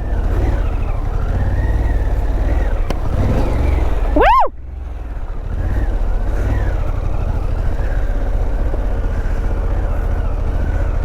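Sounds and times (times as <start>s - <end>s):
low rumble of wind: 0.0s - 11.0s
motorcycle engine running: 0.0s - 11.0s.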